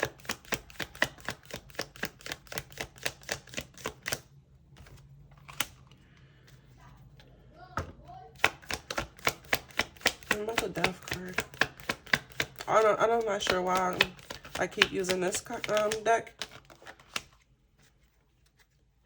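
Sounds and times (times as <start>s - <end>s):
cards being shuffled: 0.0s - 6.7s, 8.3s - 18.8s.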